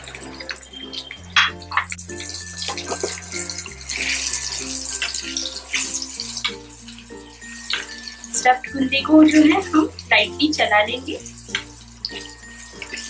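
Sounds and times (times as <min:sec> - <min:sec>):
soft background music: 0:00.0 - 0:13.0
vegetables sizzling in hot oil: 0:00.0 - 0:13.0.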